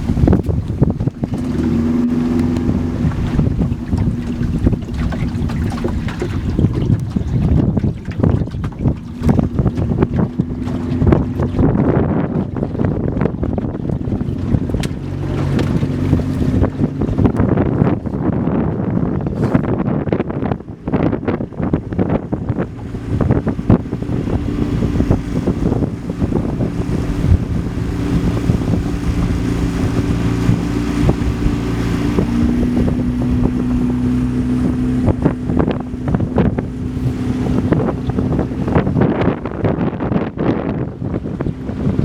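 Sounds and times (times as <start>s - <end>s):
boat motor running: 0.0s - 42.0s
wind buffeting microphone: 0.0s - 42.0s.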